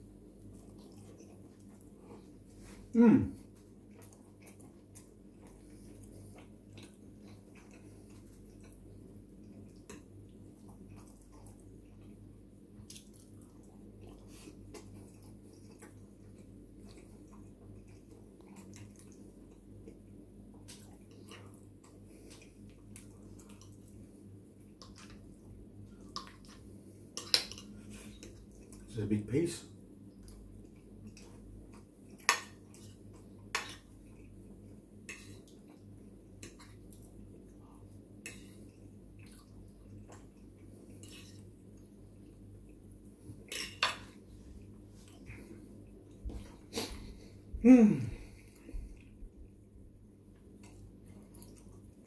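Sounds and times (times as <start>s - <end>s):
chewing and wet mouth sounds: 0.0s - 28.9s, 29.7s - 52.0s.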